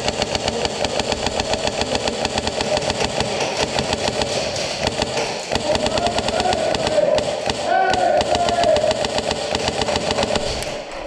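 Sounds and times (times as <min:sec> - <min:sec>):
airsoft guns firing full auto: 0:00.0 - 0:11.0.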